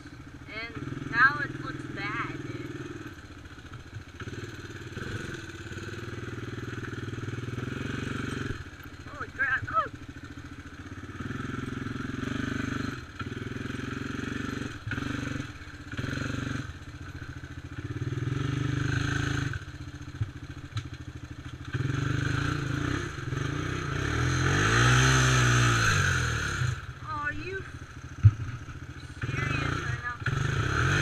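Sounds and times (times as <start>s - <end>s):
quad engine revving: 0.0s - 10.0s, 10.9s - 16.8s, 17.6s - 19.7s, 21.6s - 27.7s, 28.3s - 31.0s.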